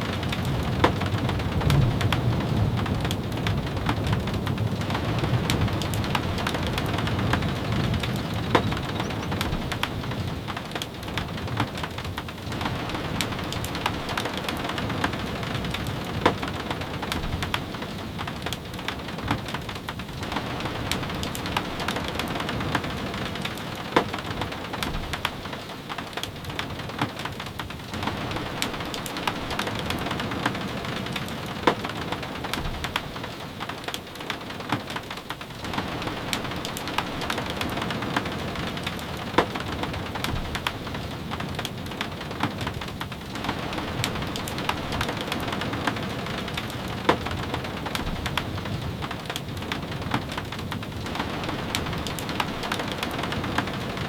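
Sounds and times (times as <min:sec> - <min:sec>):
steady rain with drip taps: 0:00.0 - 0:54.0.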